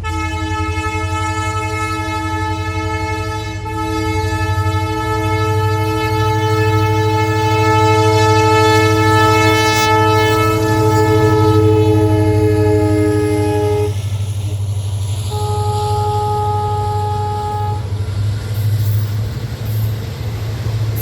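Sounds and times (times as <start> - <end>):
locomotive air horn blast: 0.0 - 19.0
diesel engine low rumble: 0.0 - 21.0.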